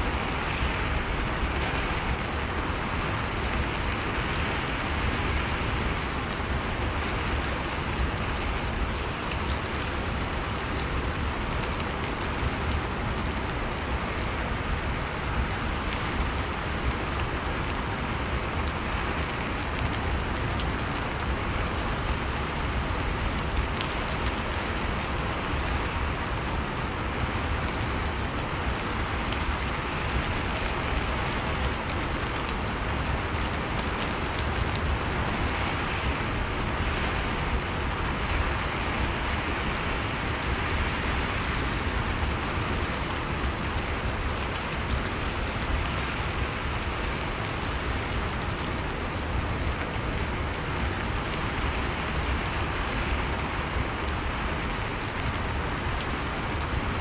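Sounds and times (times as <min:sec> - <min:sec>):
rain falling on surfaces: 0:00.0 - 0:57.0.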